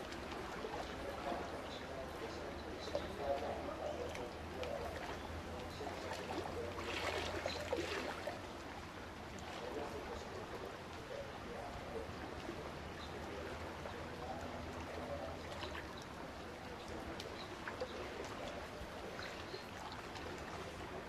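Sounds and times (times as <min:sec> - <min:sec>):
faint voices: 0:00.0 - 0:21.0
low steady hum: 0:00.0 - 0:21.0
running water stream: 0:00.0 - 0:21.0.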